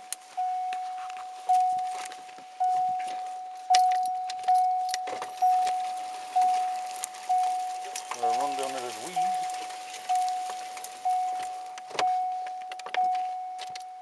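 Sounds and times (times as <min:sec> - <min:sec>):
vehicle warning chime: 0:00.0 - 0:14.0.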